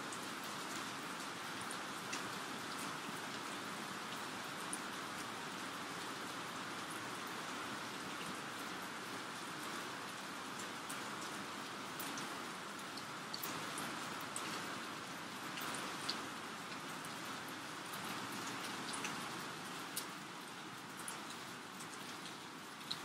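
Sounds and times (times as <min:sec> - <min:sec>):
steady rainfall hiss: 0:00.0 - 0:23.0.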